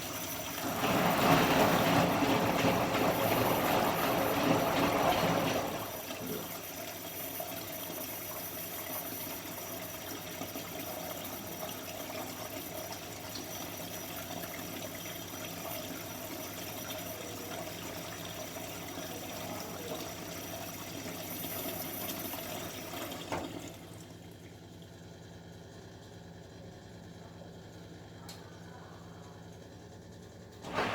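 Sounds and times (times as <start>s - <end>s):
water rushing in washing machine: 0.0s - 27.0s, 29.5s - 30.9s.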